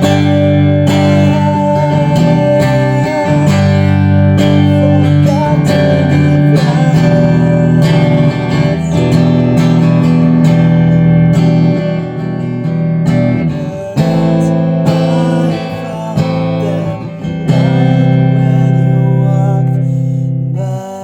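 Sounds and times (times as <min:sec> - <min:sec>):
electric guitar chords ringing: 0:00.0 - 0:21.0.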